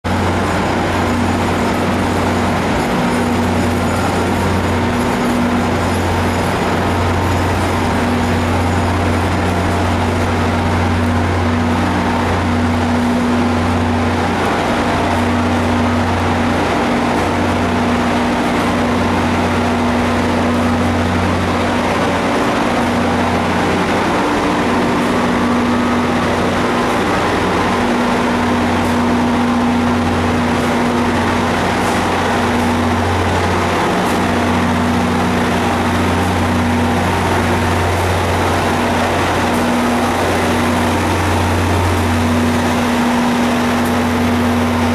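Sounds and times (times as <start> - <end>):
trains idling low drone: 0.1 - 44.9.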